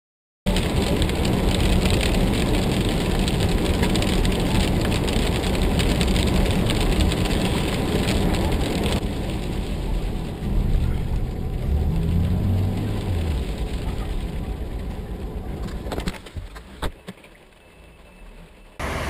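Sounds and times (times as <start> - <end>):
tyres hissing on wet road: 0.5 - 15.8, 18.8 - 19.0
rain pattering on windscreen: 0.5 - 18.8
car engine rumble: 0.5 - 19.0.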